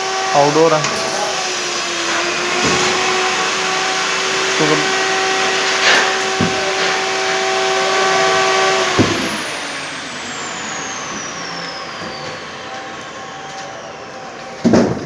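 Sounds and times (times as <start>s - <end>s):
power tool motor whine: 0.0s - 15.0s.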